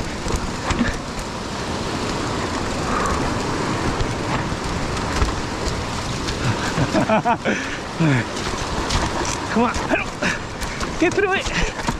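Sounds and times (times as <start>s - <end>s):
bike clicking and rattling: 0.0s - 11.9s
tyres rushing on dirt and rock: 0.0s - 11.9s.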